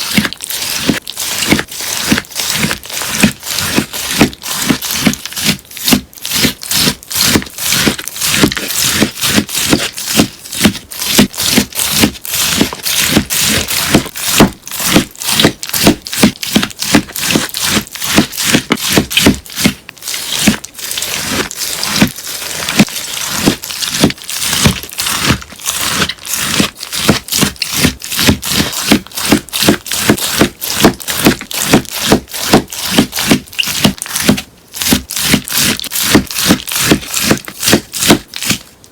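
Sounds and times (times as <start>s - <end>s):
sponge being cut: 0.0s - 38.8s.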